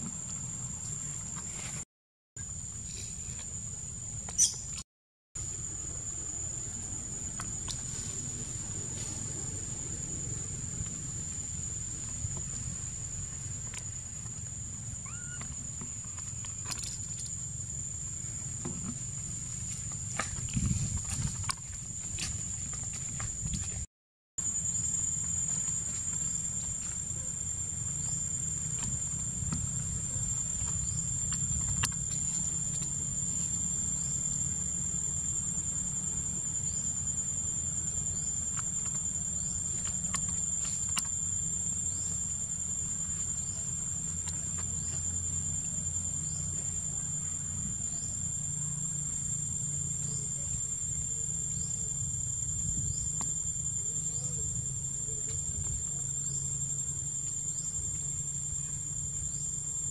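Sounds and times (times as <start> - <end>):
insects droning: 0.0 - 1.8, 5.4 - 59.9.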